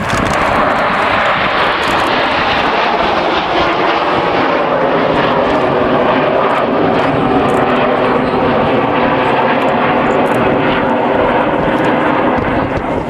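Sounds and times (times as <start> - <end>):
jet engines at high power: 0.0 - 13.0.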